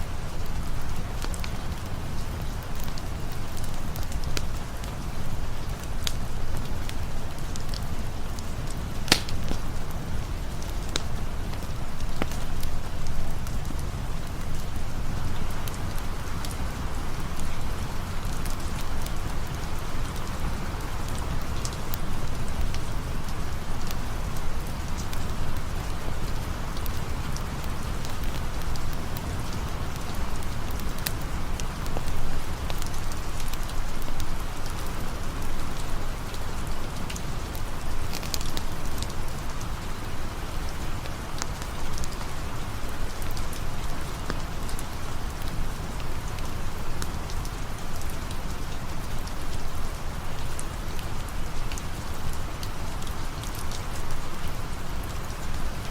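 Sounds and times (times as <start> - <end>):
sharp rain ticks: 0.0 - 55.9
steady rain hiss: 0.0 - 55.9.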